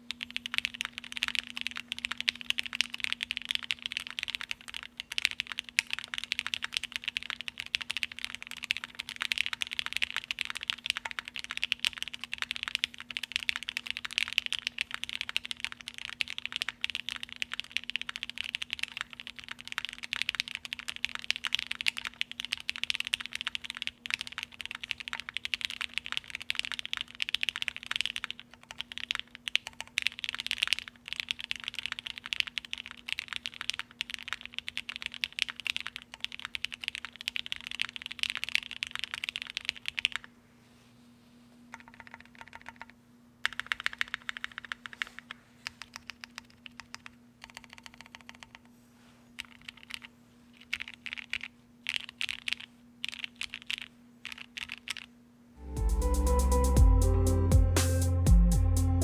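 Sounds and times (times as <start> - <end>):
mechanical keyboard typing: 0.0 - 40.3, 41.7 - 48.6, 49.4 - 55.1
faint steady hum: 0.0 - 59.0.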